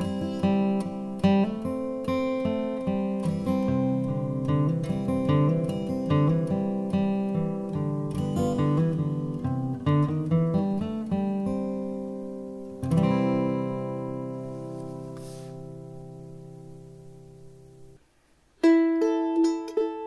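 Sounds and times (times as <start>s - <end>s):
acoustic guitar picking: 0.0s - 18.0s, 18.6s - 20.0s
guitar chord ringing: 0.0s - 18.0s, 18.6s - 20.0s.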